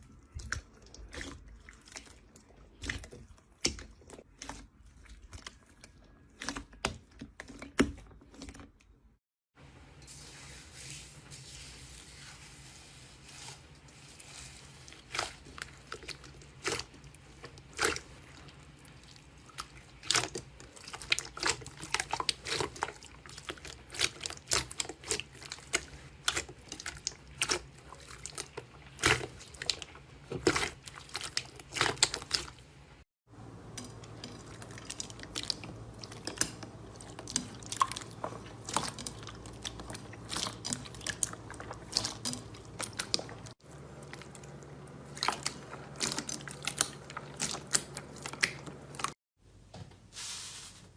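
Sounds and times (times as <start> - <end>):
hands squishing slime: 0.0 - 8.6, 11.9 - 32.7, 33.7 - 49.2.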